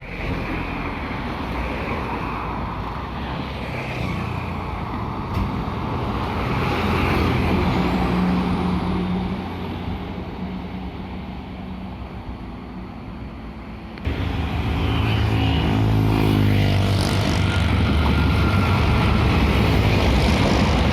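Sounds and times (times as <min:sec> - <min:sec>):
road vehicles rumbling: 0:00.0 - 0:20.9.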